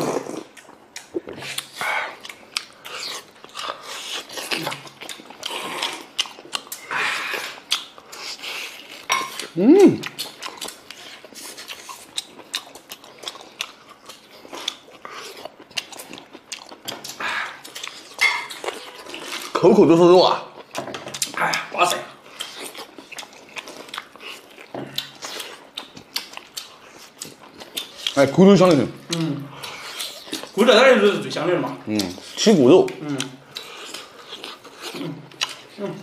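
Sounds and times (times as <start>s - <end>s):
people chewing meat: 0.0s - 36.0s.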